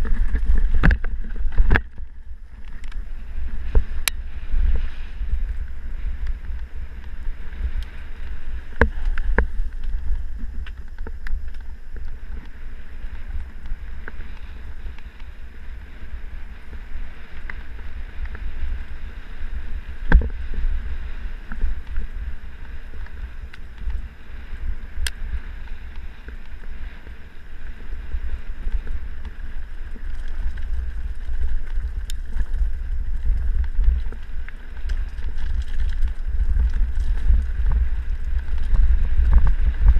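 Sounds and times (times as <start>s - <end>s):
bike rattling: 0.0s - 39.9s
wind rumbling on microphone: 0.0s - 39.9s.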